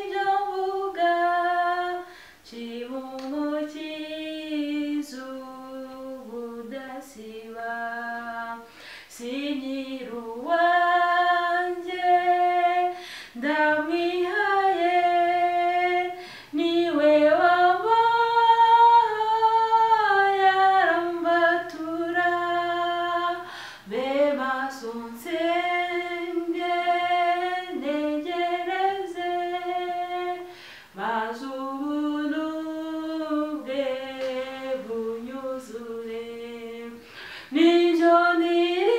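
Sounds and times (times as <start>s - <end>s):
woman singing a hymn solo: 0.0s - 38.9s.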